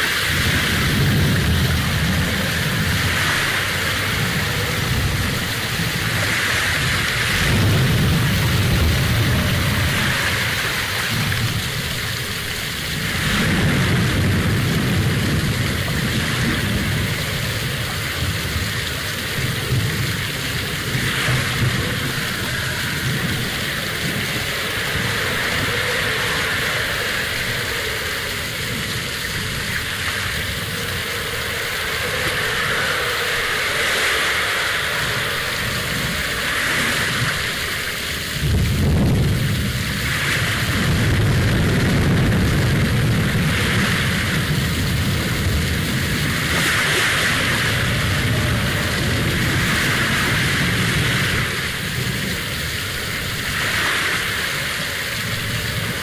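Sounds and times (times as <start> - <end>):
low rumbling: 0.0 - 56.0
rushing water: 0.0 - 56.0.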